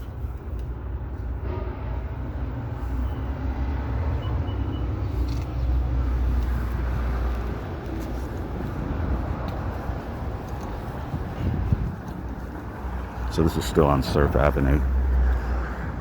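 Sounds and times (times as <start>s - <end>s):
low rumble of street traffic: 0.0s - 16.0s
vehicle passing: 1.4s - 16.0s.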